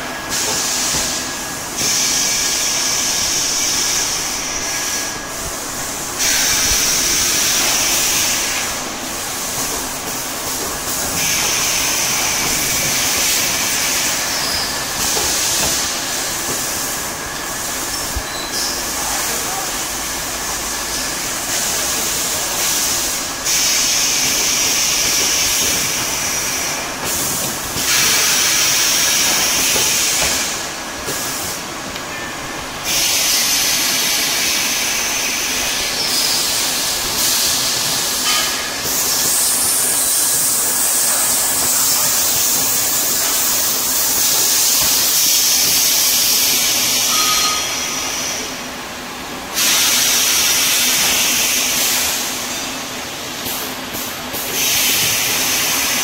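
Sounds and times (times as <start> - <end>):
welding machine hiss: 0.0 - 56.0.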